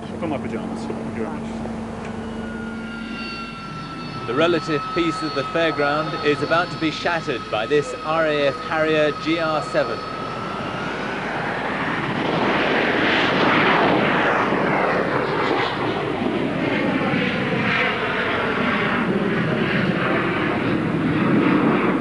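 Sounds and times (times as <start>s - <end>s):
jet engine whine and roar: 0.0s - 22.0s.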